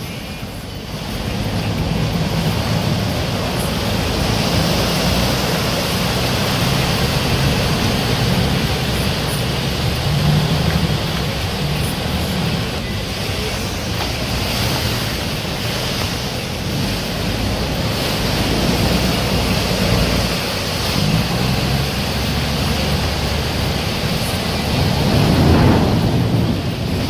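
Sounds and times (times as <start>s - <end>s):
diesel boat engine rumble: 0.0s - 27.0s
rushing churning wake water: 0.0s - 27.0s.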